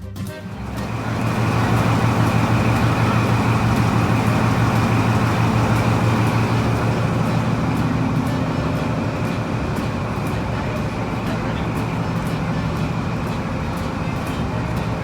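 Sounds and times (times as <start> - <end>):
diesel train engine idling: 0.1 - 15.0.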